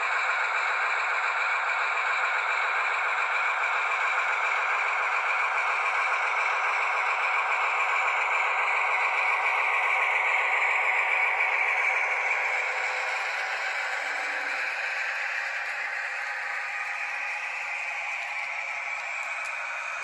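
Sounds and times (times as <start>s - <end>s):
model train diesel engine sound: 0.0s - 20.0s.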